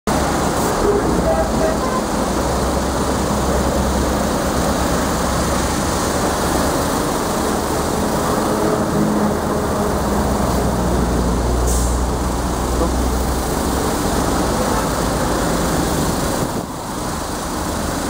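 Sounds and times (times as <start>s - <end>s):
truck engine humming: 0.1s - 18.0s.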